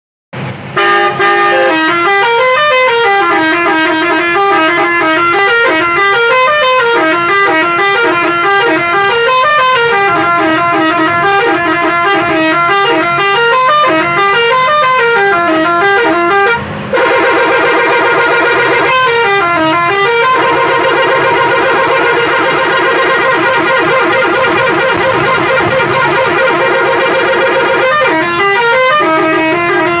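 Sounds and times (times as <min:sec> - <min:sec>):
musical bus horn: 0:00.4 - 0:30.0.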